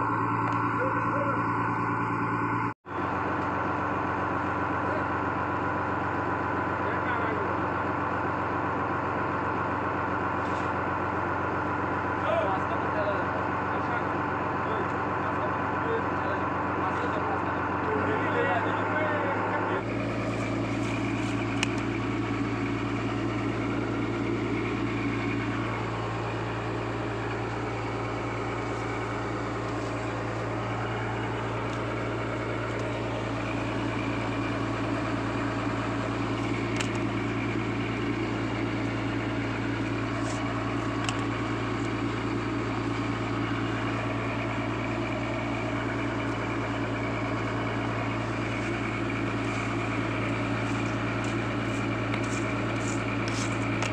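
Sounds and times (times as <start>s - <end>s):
boat engine humming: 0.0s - 53.9s.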